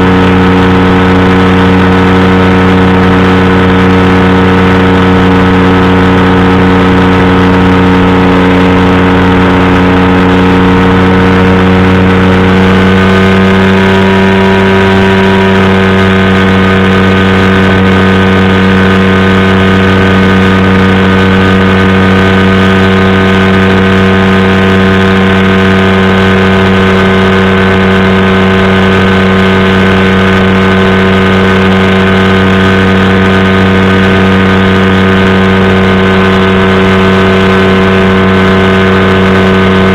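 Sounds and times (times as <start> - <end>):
engine and propeller running: 0.0 - 39.9.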